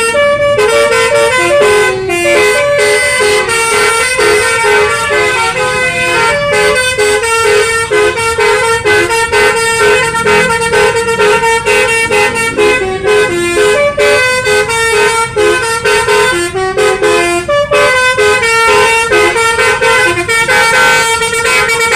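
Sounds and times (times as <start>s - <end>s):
multi-tone bus horn tune: 0.0s - 21.9s.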